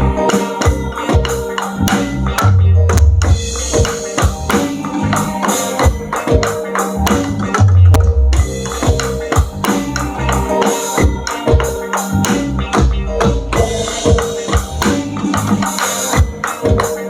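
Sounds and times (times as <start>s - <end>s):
backing music with bass line: 0.0s - 17.0s
drum kit playing steady beat: 0.0s - 17.0s.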